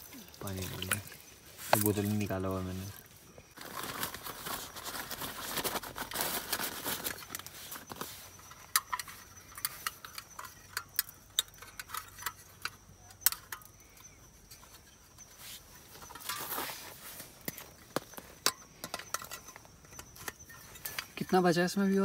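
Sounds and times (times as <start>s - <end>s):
rustling: 0.0s - 22.0s.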